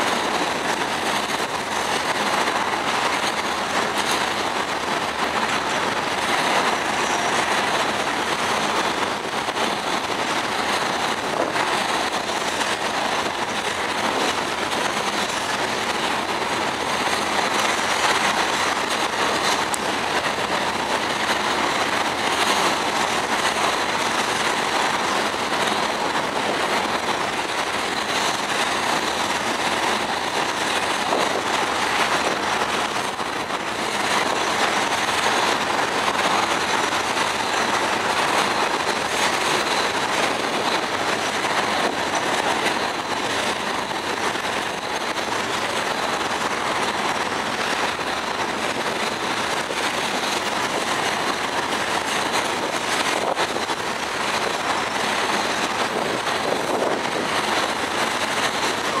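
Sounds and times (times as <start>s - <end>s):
freight train cars rolling past: 0.0s - 59.0s
steel wheels on rails: 0.0s - 59.0s.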